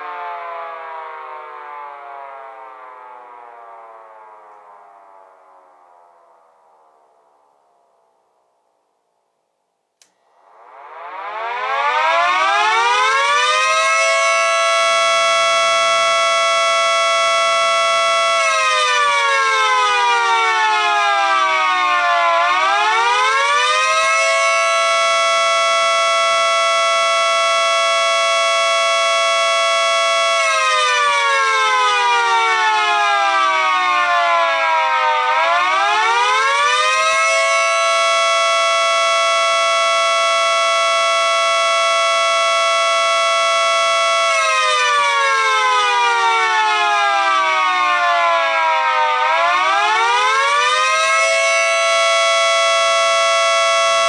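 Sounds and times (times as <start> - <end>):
warning siren winding up and down: 0.0 - 6.9, 10.0 - 54.0.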